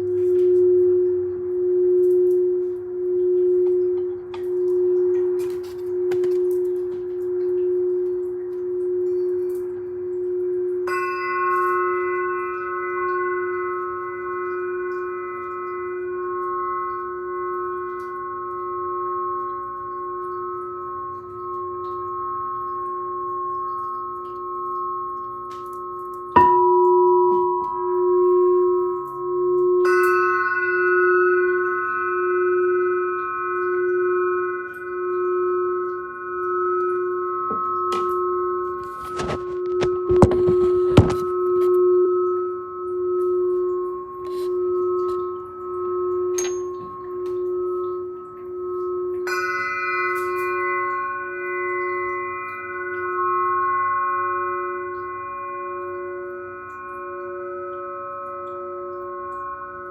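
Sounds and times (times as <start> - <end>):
glass bowl strike: 0.0 - 59.9
singing glass bowl ringing: 0.0 - 59.9.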